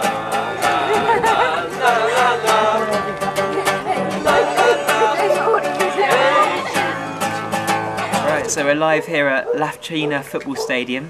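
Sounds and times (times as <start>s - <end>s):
acoustic guitar strumming: 0.0s - 9.3s
voices: 0.0s - 11.0s.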